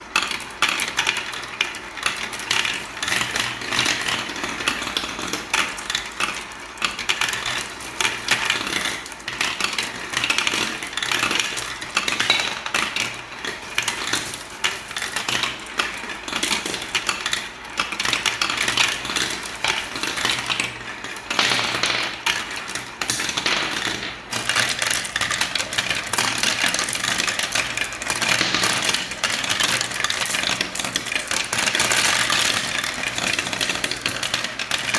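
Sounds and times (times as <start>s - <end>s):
balls rattling down marble run: 0.2s - 34.9s.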